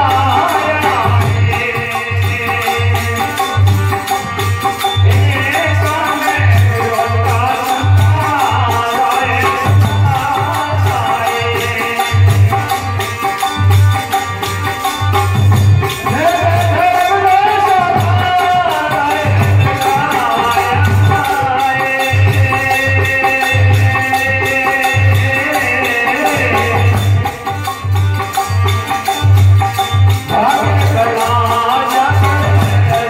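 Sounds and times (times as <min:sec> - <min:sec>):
jingling hand percussion: 0:00.0 - 0:33.0
keyboard melody: 0:00.0 - 0:33.0.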